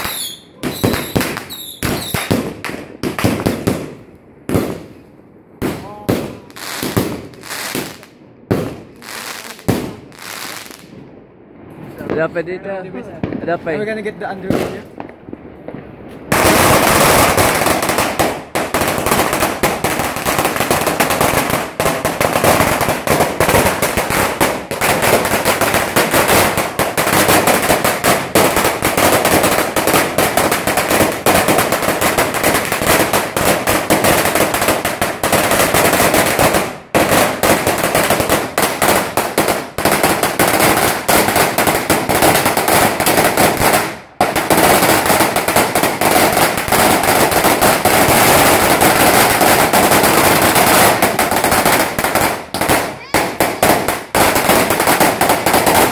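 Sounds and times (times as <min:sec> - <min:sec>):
firecrackers exploding rapidly: 0:00.0 - 0:05.0, 0:05.6 - 0:10.9, 0:13.2 - 0:55.9.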